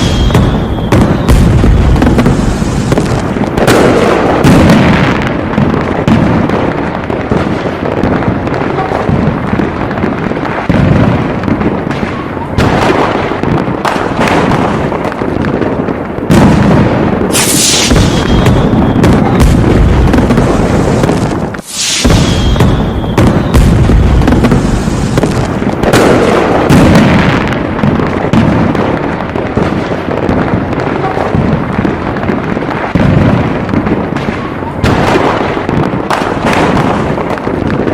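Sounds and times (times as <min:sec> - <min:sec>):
fireworks bangs and crackles: 0:00.0 - 0:37.9.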